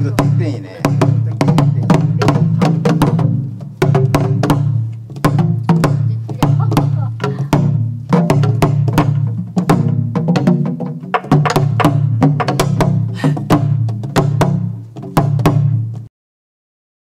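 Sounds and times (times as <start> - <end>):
deep barrel drum strokes: 0.0 - 16.1
drumstick clacks: 0.0 - 16.1.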